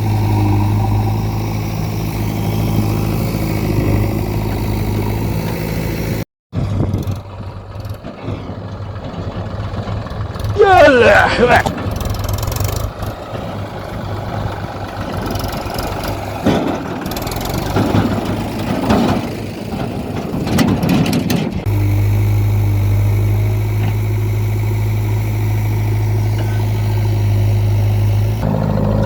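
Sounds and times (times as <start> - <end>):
heavy diesel engine running: 0.0 - 29.0
low engine hum: 0.0 - 29.0.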